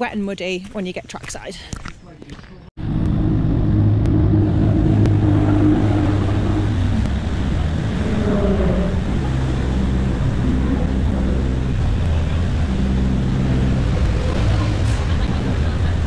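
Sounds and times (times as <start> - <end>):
race car engines idling: 2.8 - 16.0.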